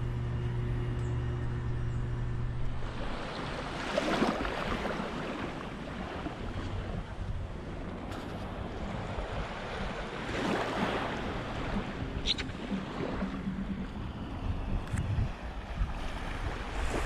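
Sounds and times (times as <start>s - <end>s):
steady low hum: 0.0s - 17.0s
wave wash: 0.0s - 17.0s
wind on microphone: 1.1s - 17.0s
wave breaking: 2.3s - 17.0s.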